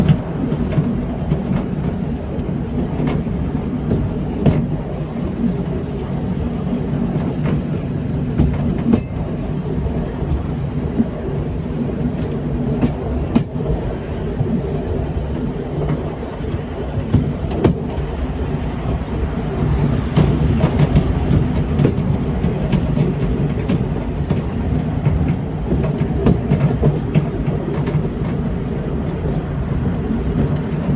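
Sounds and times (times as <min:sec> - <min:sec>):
train carriage rumbling: 0:00.0 - 0:30.9
wheels clicking on track: 0:00.0 - 0:30.9.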